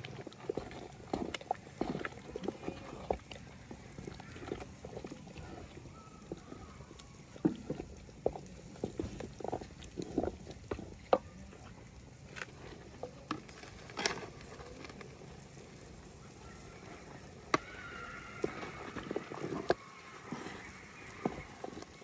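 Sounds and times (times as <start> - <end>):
low steady background noise: 0.0 - 22.0.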